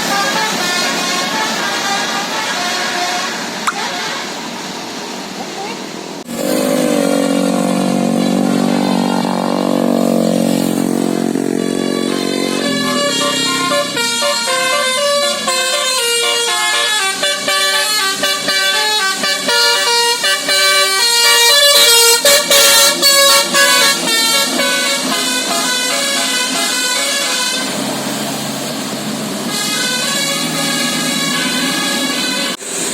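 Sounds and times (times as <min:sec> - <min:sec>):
musical air horn melody: 0:00.0 - 0:04.4, 0:06.3 - 0:28.4, 0:29.5 - 0:32.6.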